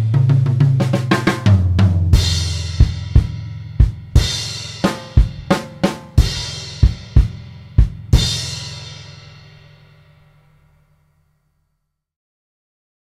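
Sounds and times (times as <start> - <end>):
drum kit playing: 0.0 - 10.8.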